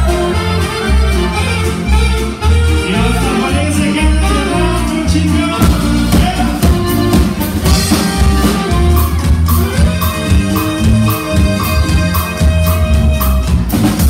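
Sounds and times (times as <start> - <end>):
saxophone: 0.0 - 5.1, 5.7 - 14.0
accordion: 0.0 - 14.0
drum kit beat: 0.0 - 14.0
electric bass: 0.0 - 14.0
guitar: 0.0 - 14.0.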